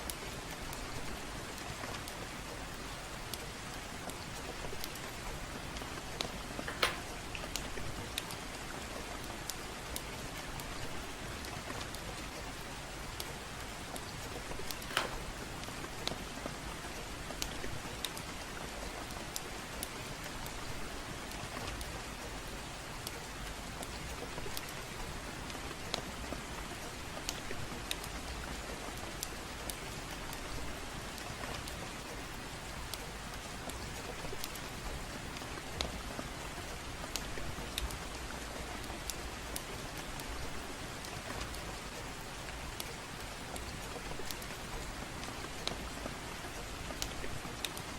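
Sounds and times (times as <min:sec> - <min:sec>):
gentle rain falling: 0:00.0 - 0:47.9
wood fire crackling: 0:00.1 - 0:47.9.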